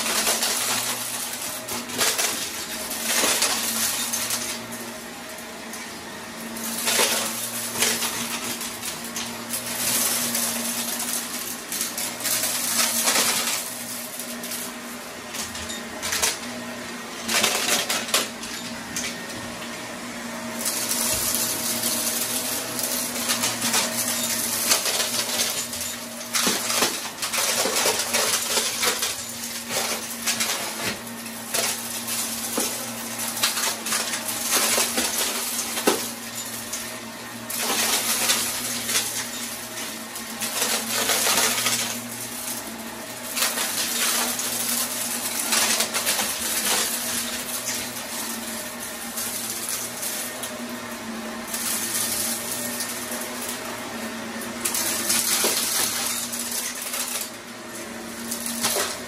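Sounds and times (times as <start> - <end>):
debris rattling up vacuum hose: 0.0 - 59.0
vacuum cleaner motor humming: 0.0 - 59.0.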